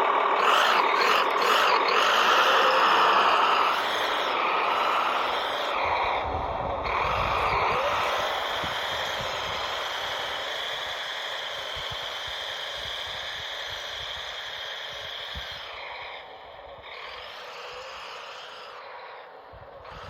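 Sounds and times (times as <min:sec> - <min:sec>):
toy tracked vehicle whirring: 0:00.0 - 0:20.0.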